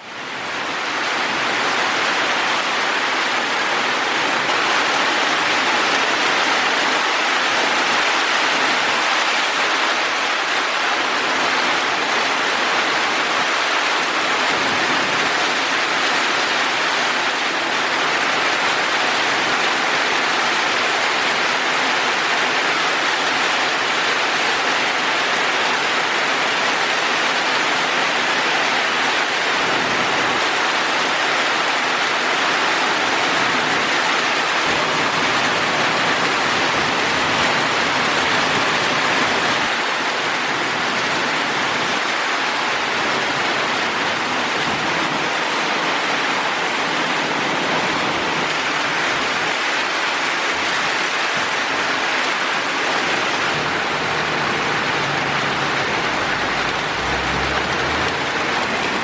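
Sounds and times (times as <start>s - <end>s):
rain pouring down: 0.0s - 59.0s.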